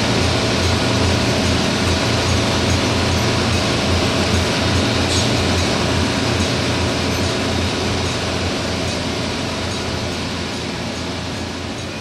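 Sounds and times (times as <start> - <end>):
drilling rig machinery drone: 0.0 - 12.0.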